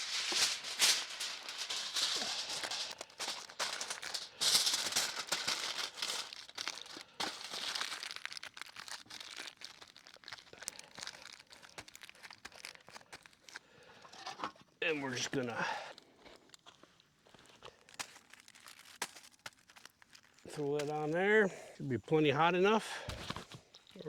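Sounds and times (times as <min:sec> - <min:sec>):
aluminum foil crinkling: 0:00.0 - 0:21.4, 0:22.5 - 0:24.0.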